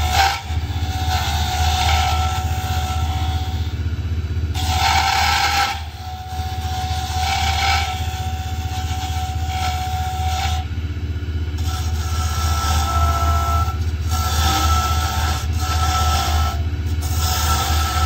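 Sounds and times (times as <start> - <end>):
turning tool scraping wood: 0.0 - 3.9, 4.5 - 10.8, 11.4 - 18.0
lathe humming: 0.0 - 18.0.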